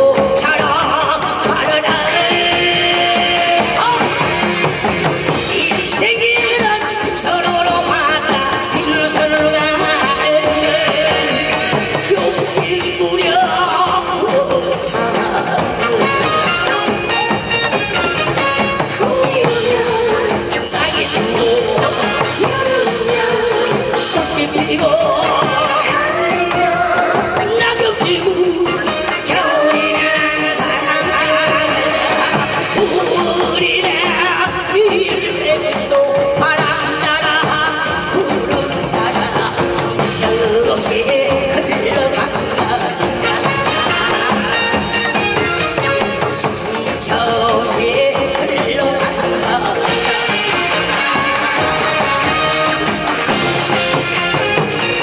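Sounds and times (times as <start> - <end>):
amplified folk singing: 0.0 - 55.0
band accompaniment: 0.0 - 55.0
barrel drums: 0.0 - 55.0.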